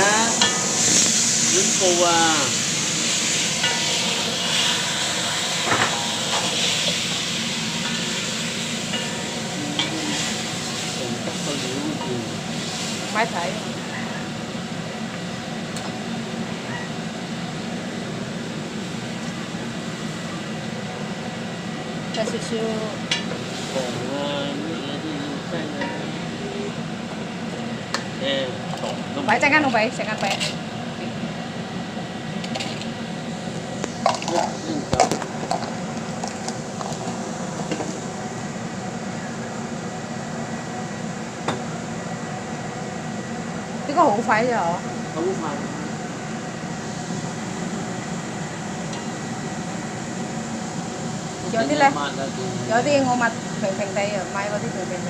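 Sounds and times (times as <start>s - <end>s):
kitchen fan whirring hum: 0.0s - 55.0s.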